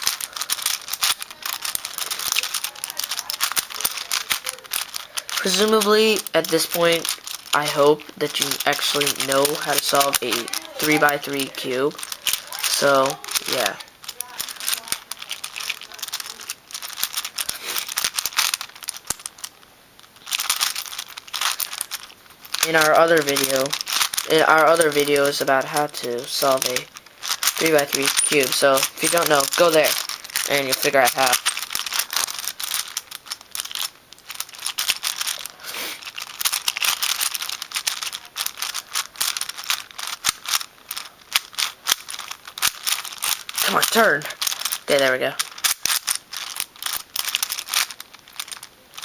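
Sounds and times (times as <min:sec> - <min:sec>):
puzzle cube clicking and scraping: 0:00.0 - 0:49.0.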